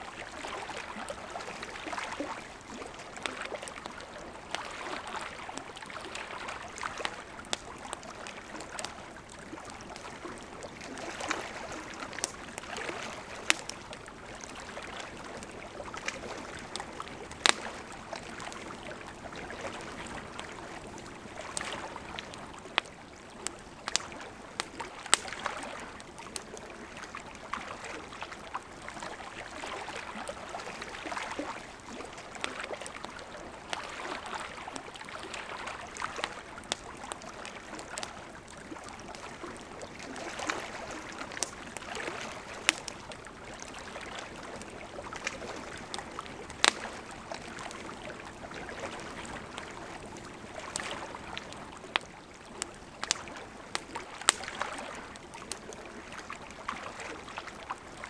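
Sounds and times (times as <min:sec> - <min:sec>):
campfire hissing and crackling: 0:00.0 - 0:58.0.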